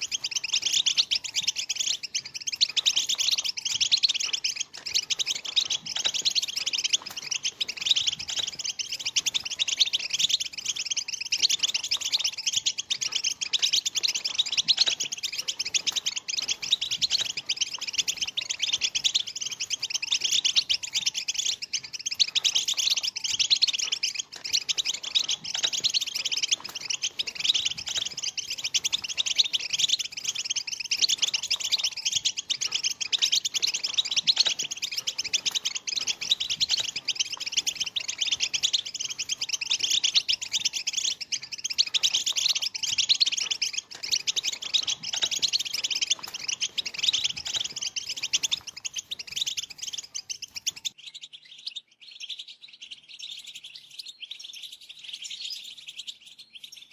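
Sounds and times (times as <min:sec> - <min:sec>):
finches twittering: 0:00.0 - 0:56.9.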